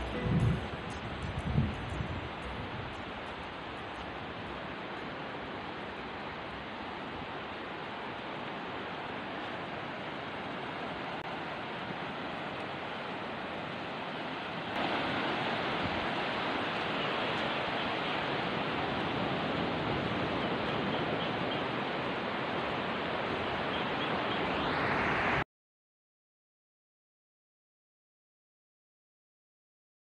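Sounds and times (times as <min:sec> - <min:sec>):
ocean surf on beach: 0:00.0 - 0:25.4.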